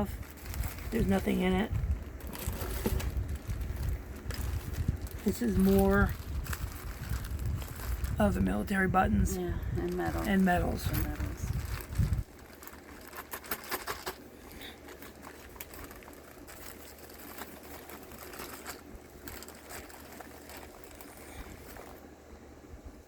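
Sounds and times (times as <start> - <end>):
small items clicking and rattling: 0.0 - 8.2, 9.8 - 22.0
low steady hum: 0.0 - 23.0.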